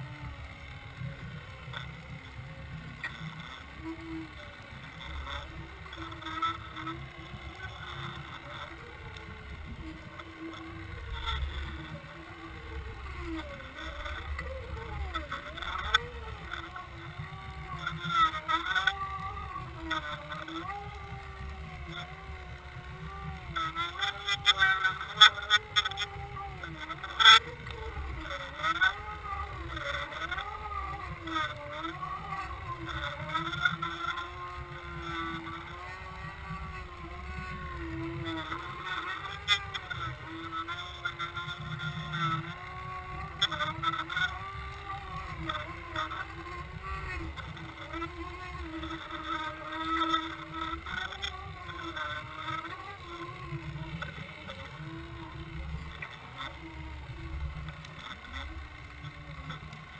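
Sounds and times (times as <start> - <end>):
boat motor droning underwater: 0.0 - 59.9.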